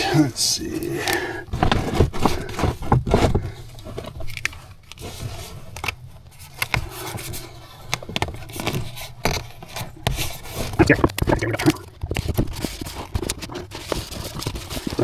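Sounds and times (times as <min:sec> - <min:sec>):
plastic sheet crinkling and rustling: 0:00.0 - 0:15.0.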